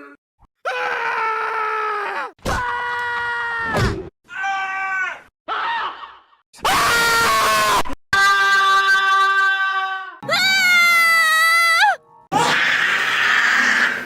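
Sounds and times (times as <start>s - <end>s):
harsh screams: 0.7s - 14.0s.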